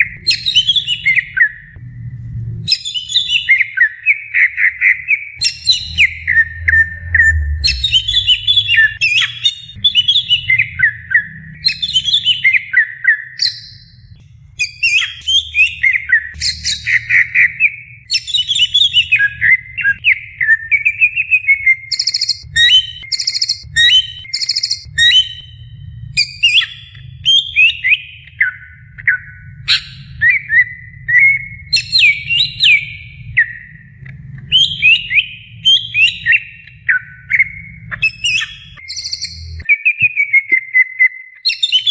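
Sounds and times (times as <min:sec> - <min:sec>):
bird singing whistles and trills: 0:00.0 - 0:01.8, 0:02.6 - 0:41.9
faint low rumble: 0:00.0 - 0:12.6, 0:13.6 - 0:14.9, 0:15.7 - 0:39.7.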